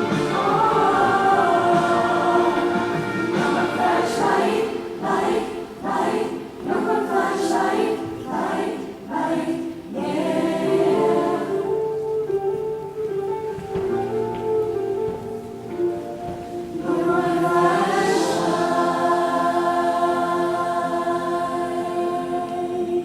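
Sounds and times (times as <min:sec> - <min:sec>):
choir singing chords: 0:00.0 - 0:12.4, 0:16.2 - 0:23.0.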